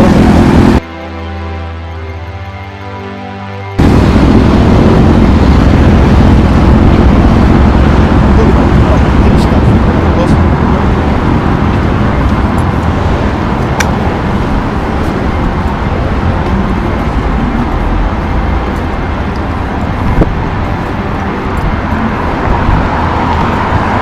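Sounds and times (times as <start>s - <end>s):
cars going by: 3.8s - 24.0s.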